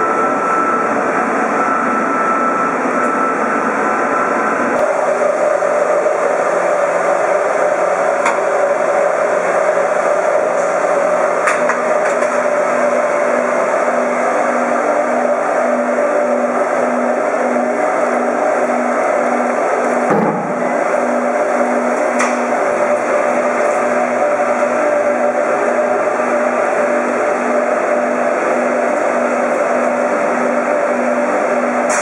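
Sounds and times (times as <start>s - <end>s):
machine drone with hum: 0.0s - 32.0s.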